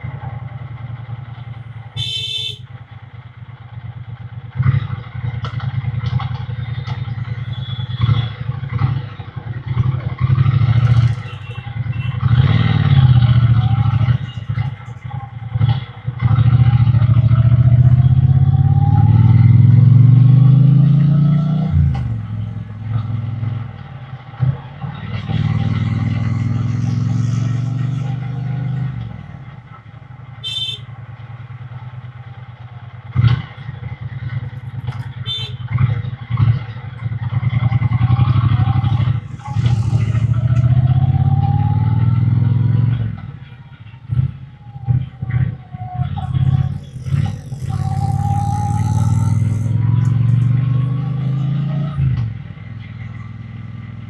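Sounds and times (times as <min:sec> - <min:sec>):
motorcycle engine accelerating: 0:00.0 - 0:43.5, 0:44.1 - 0:54.0.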